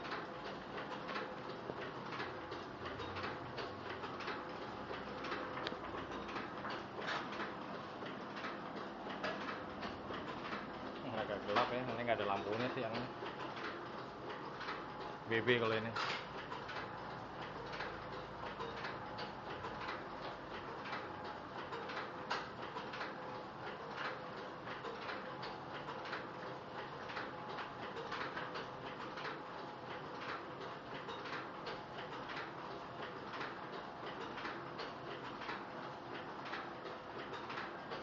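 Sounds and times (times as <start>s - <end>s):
printing press clattering: 0.0s - 38.0s.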